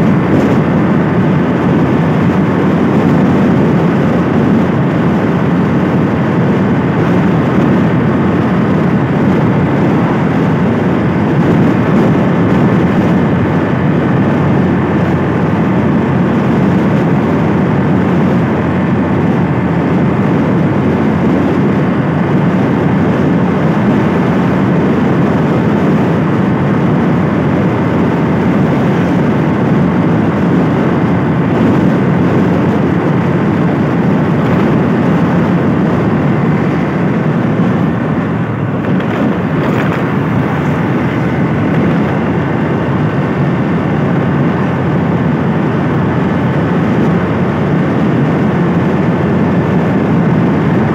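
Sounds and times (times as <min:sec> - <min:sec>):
scooter engine running: 0:00.0 - 0:50.9
wind and road noise: 0:00.0 - 0:50.9.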